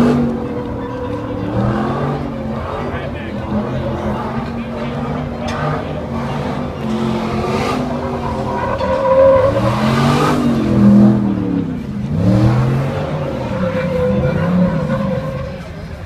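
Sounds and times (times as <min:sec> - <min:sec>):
tire noise: 0:00.0 - 0:16.0
truck engine revving hard: 0:00.0 - 0:16.0.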